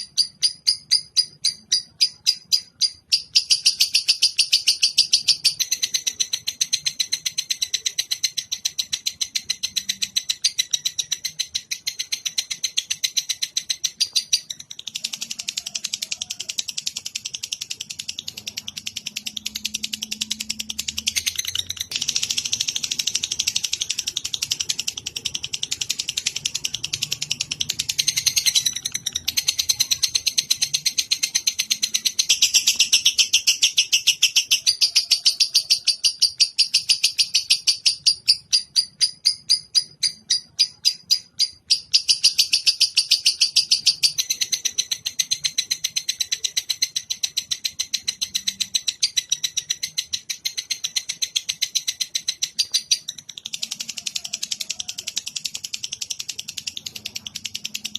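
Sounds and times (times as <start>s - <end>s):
songbird buzzy trill: 0.0s - 57.9s.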